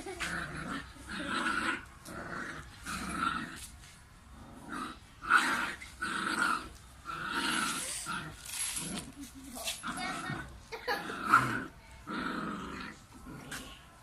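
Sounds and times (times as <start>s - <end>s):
puppy growling: 0.0s - 3.7s, 4.3s - 13.9s.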